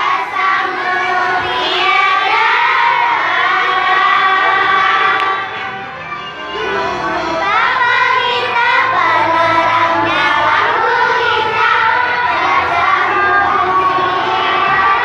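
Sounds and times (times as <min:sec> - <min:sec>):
children singing and shouting: 0:00.0 - 0:15.0.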